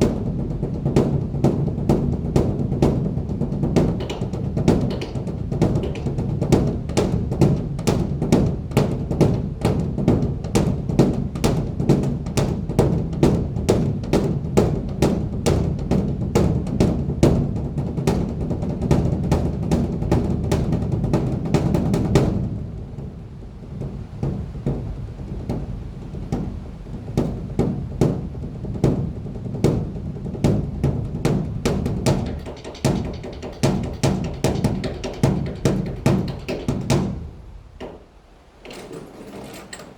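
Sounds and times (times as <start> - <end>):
large temple drum beaten rhythmically: 0.0 - 22.4, 27.8 - 37.4.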